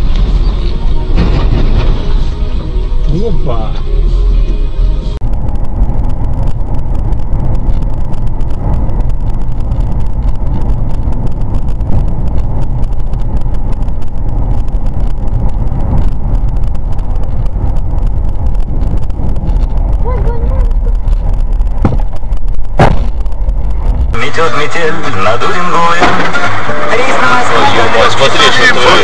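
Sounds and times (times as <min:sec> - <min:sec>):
road tyre and engine rumble: 0:00.0 - 0:29.0.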